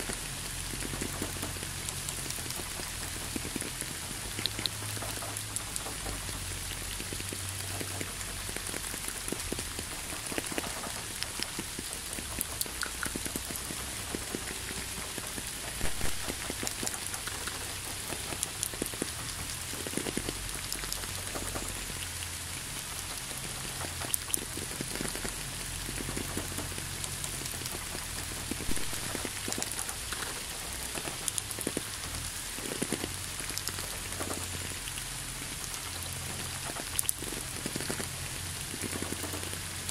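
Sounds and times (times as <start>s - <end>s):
rain hiss: 0.0s - 39.9s
raindrop clicks: 0.0s - 39.9s.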